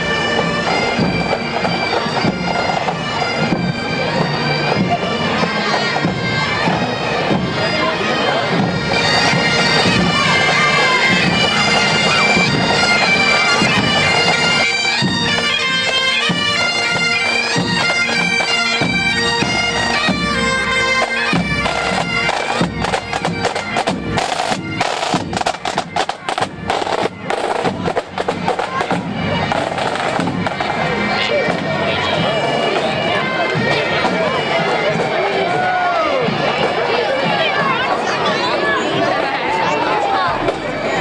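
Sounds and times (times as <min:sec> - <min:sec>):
bagpipes playing: 0:00.0 - 0:41.0.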